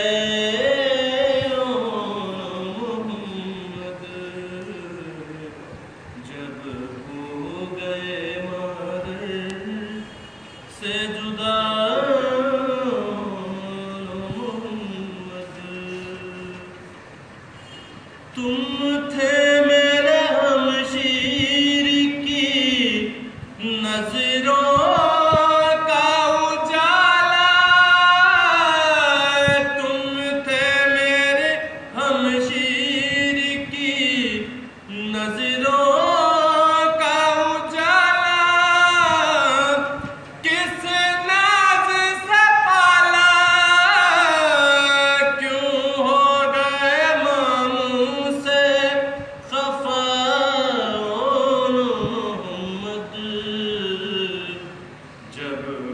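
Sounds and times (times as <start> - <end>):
man singing lament unaccompanied: 0.0 - 16.9, 18.3 - 55.9.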